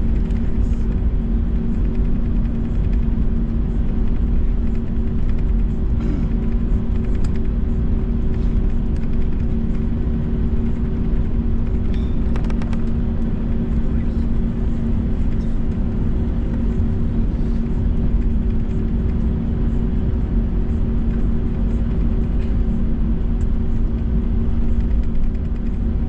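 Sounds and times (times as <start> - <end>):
jet engines idling hum: 0.0 - 26.0.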